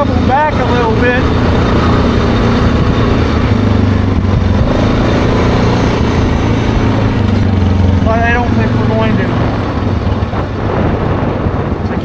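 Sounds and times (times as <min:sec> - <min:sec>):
atv engine running: 0:00.0 - 0:12.0
road and wind noise: 0:00.0 - 0:12.0.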